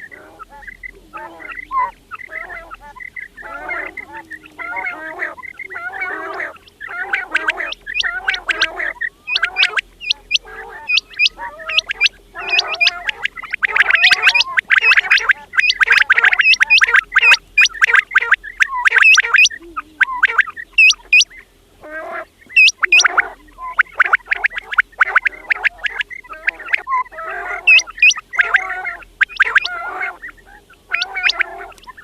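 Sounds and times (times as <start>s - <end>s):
quails calling: 0.0s - 32.0s.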